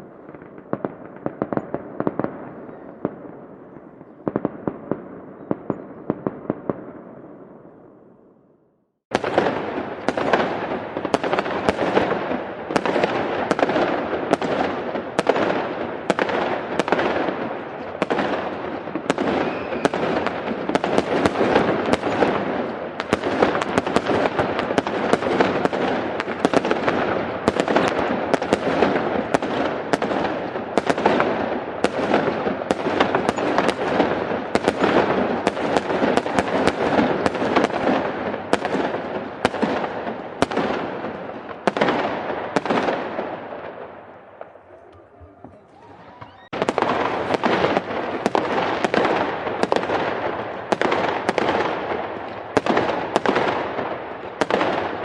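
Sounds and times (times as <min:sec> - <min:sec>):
fireworks bangs: 0:00.0 - 0:08.1, 0:09.1 - 0:55.0
fireworks crackle: 0:09.1 - 0:55.0.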